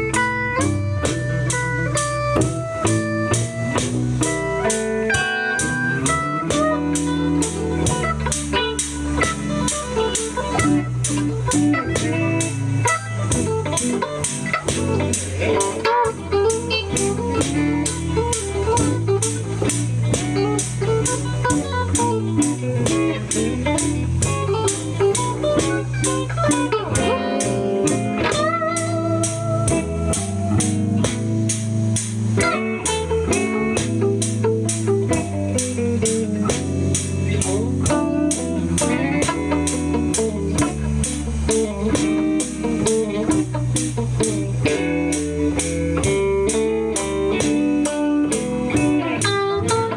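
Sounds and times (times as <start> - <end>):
blues band playing: 0.0 - 49.9
electric guitar lead: 0.0 - 49.9.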